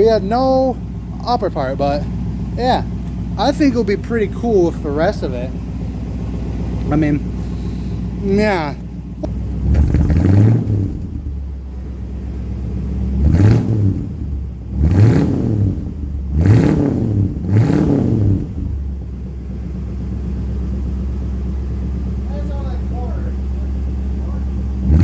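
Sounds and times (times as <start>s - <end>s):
car engine revving and idling: 0.0s - 25.0s.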